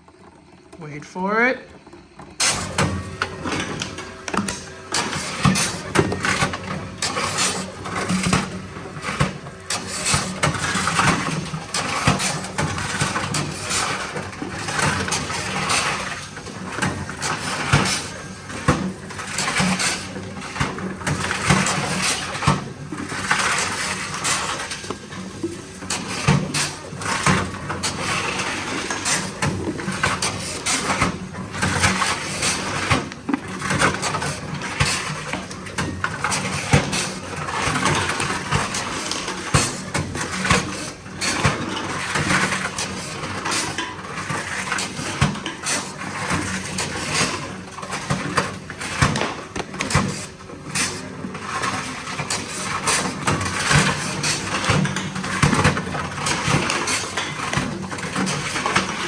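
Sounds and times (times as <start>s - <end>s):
vending machine mechanism running: 0.0s - 59.0s
bottles clattering and knocking: 0.1s - 59.0s.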